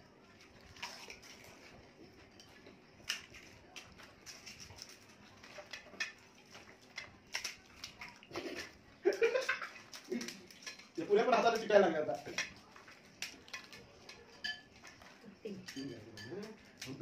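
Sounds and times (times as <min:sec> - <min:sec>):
crisp shells cracking and chewing: 0:00.4 - 0:11.0, 0:11.6 - 0:17.0.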